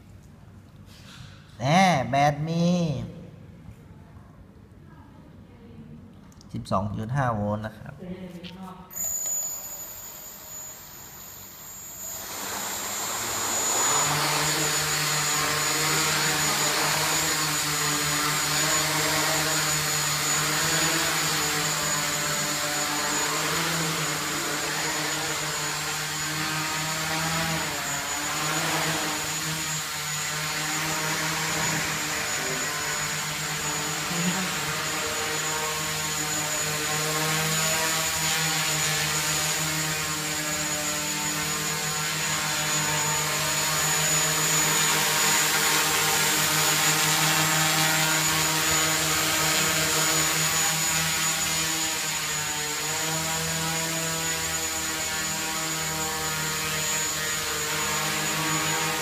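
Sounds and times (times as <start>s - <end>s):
drone motors buzzing whine: 8.9s - 59.0s.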